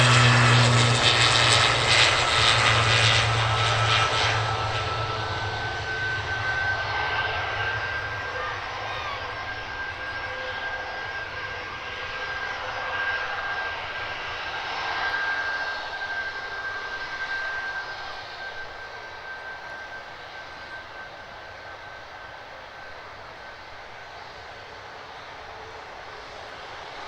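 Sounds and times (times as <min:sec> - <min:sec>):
jet engines whining: 0:00.0 - 0:27.0.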